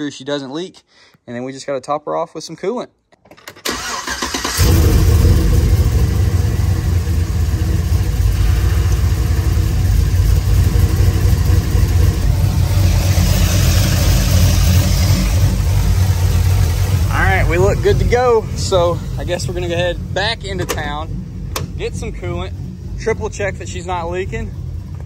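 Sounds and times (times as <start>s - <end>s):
truck engine idling: 3.8s - 25.0s.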